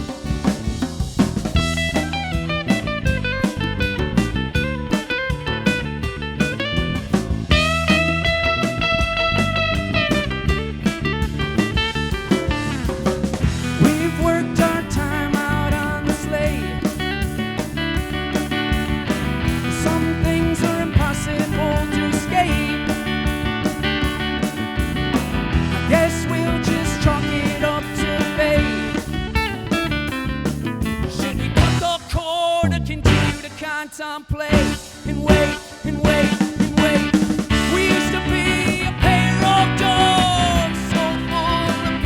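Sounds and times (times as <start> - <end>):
drums keeping a steady beat: 0.0 - 42.0
guitar: 0.0 - 42.0.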